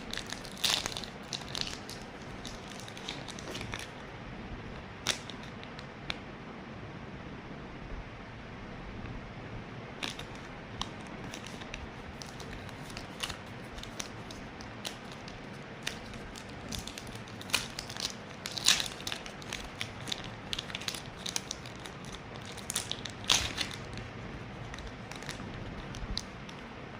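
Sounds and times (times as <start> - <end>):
packaging crinkling: 0.0 - 4.1, 4.8 - 5.9, 10.0 - 26.8.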